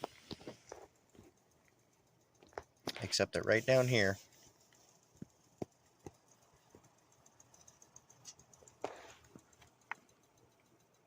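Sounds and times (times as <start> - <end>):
faint clicks and knocks: 0.0 - 3.5, 4.2 - 11.0.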